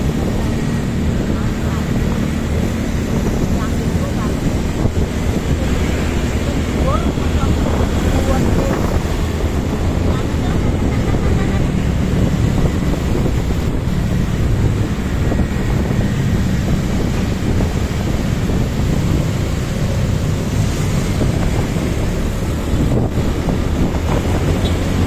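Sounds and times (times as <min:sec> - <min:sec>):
motor scooters running: 0:00.0 - 0:25.0
wind rushing on microphone: 0:00.0 - 0:25.0.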